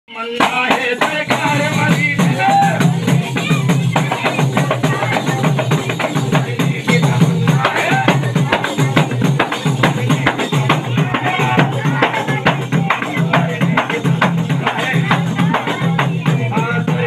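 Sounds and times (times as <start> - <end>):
men chanting: 0.1 - 17.0
frame drums beaten in rhythm: 0.2 - 17.0.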